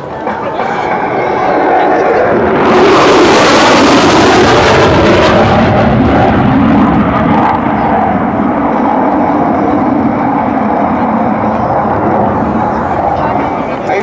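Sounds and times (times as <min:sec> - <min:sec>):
fighter jets roaring past: 0:00.0 - 0:14.0.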